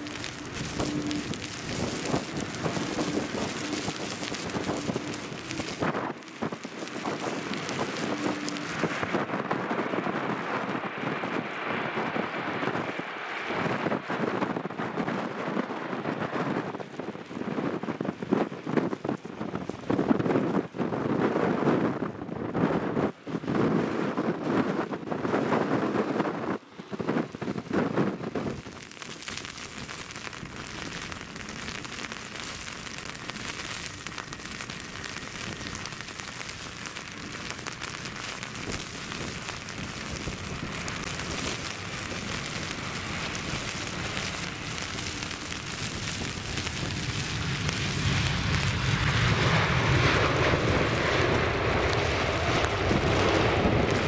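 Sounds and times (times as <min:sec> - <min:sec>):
rain and spray hissing: 0:00.0 - 0:20.6, 0:26.8 - 0:54.0
gusty wind buffeting microphone: 0:00.0 - 0:54.0
jet engines rumbling: 0:00.0 - 0:54.0.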